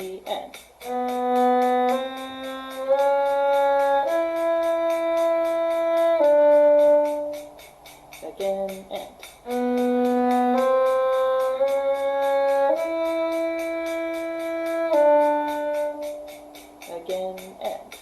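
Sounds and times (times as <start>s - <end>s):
bowed string instrument: 0.0s - 18.0s.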